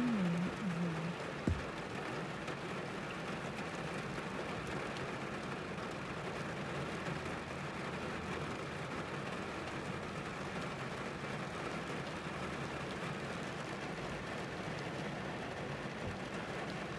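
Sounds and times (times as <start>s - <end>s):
rain on car roof: 0.0s - 16.9s.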